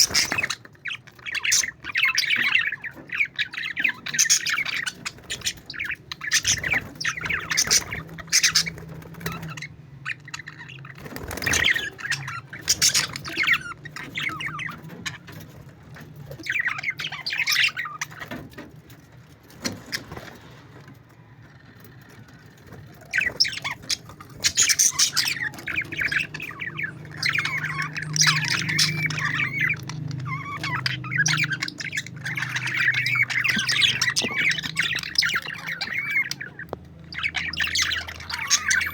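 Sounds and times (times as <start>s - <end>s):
parakeets chattering and squawking: 0.0s - 38.9s.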